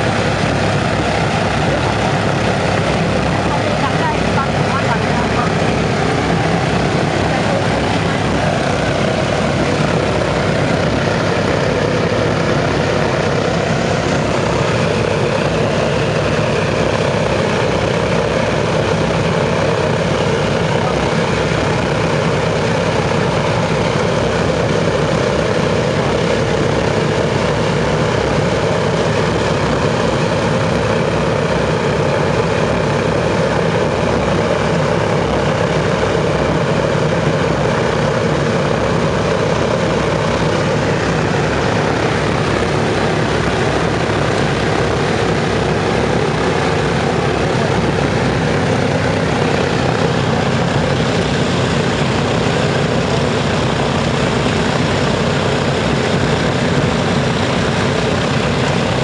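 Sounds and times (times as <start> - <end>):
propeller aircraft engines rumbling: 0.0 - 59.0.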